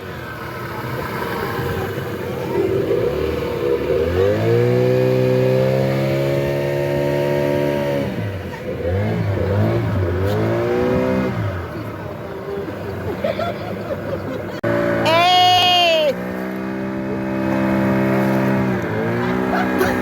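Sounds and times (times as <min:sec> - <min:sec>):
motorboat engine at high speed: 0:00.0 - 0:20.0.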